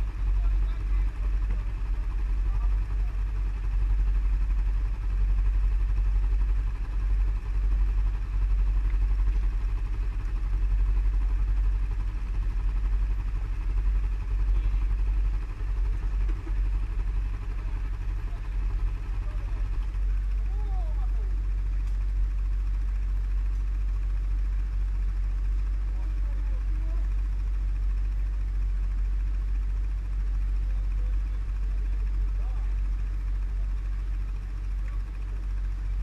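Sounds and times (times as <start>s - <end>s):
quad bike engine rumbling: 0.0s - 36.0s.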